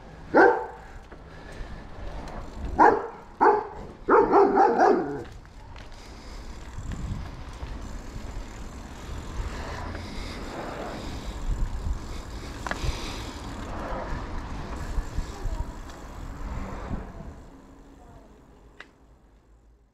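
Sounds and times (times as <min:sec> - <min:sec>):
bike rattling: 0:00.0 - 0:18.3
bike tyres rolling on dirt: 0:00.0 - 0:19.7
wind rumble on microphone: 0:01.6 - 0:04.6, 0:05.2 - 0:18.3.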